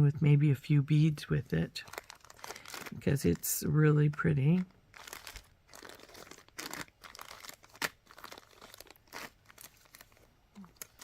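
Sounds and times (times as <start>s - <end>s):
plastic packets crinkling: 1.5s - 11.0s.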